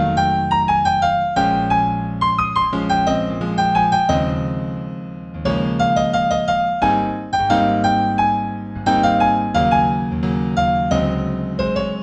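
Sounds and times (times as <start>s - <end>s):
solo piano piece: 0.0s - 12.0s.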